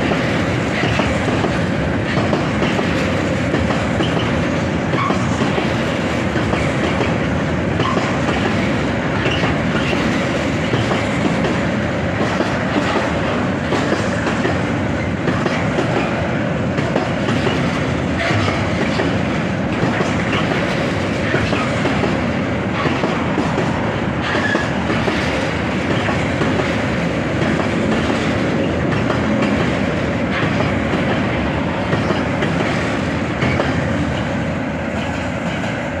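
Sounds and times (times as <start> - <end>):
freight train wheels clattering on rails: 0.0 - 36.0.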